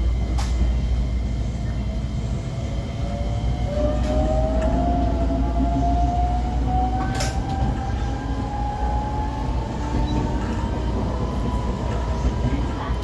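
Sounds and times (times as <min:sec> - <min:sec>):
wheels rumbling on track: 0:00.0 - 0:13.0.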